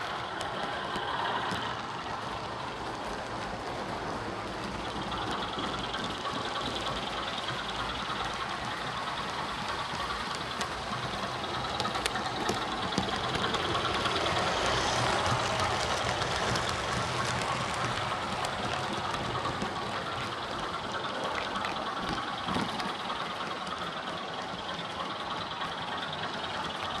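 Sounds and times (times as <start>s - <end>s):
diesel engine sound from small speaker: 0.0s - 27.0s.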